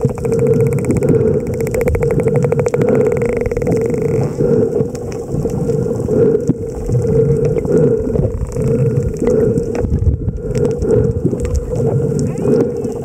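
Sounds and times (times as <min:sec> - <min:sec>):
underwater water rush: 0:00.0 - 0:13.0.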